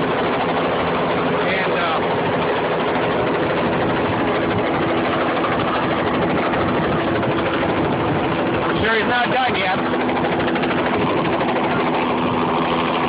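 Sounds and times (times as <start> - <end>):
helicopter hovering overhead: 0.0 - 13.0.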